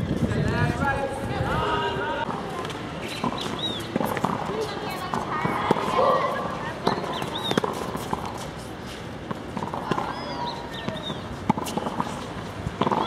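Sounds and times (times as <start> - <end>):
tennis balls struck and bouncing: 2.2 - 13.0.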